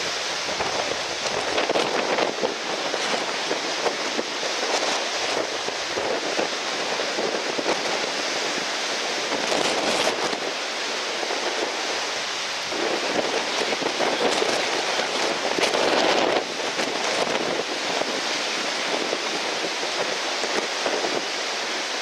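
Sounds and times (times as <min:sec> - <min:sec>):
strong wind: 0:00.0 - 0:22.0
surf rushing: 0:00.0 - 0:22.0
wind buffeting microphone: 0:00.0 - 0:22.0.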